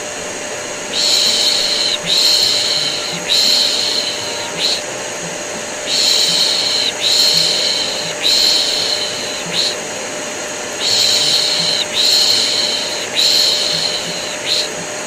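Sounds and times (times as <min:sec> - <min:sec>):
vacuum cleaner drone: 0:00.0 - 0:15.0
person shushing: 0:00.8 - 0:10.1, 0:10.8 - 0:15.0.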